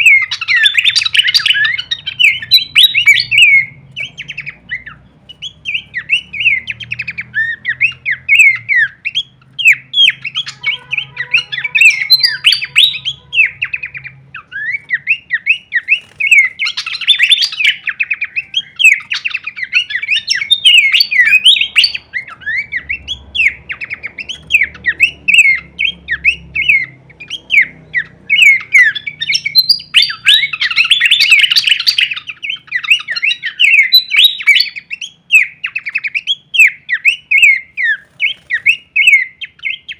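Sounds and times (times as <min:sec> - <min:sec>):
babbler bird chirping: 0:00.0 - 0:39.9.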